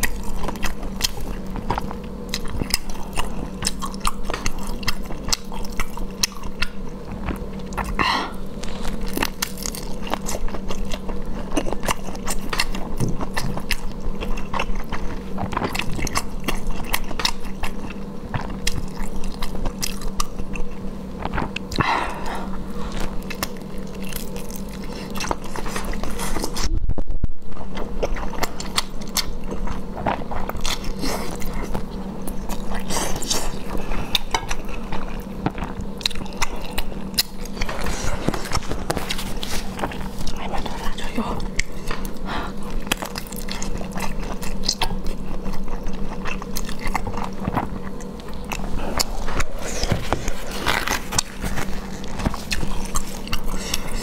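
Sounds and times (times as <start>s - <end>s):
wet chewing and biting: 0.0s - 26.7s, 27.5s - 54.0s.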